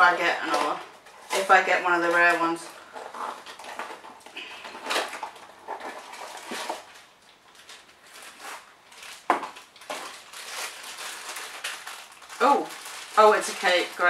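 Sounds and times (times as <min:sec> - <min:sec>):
foil bag crinkling: 0:00.0 - 0:14.0.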